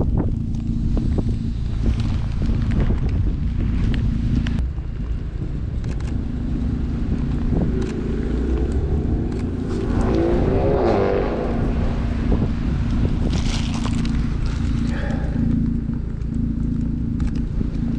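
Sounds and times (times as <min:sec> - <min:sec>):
car engine running: 0:00.0 - 0:17.9.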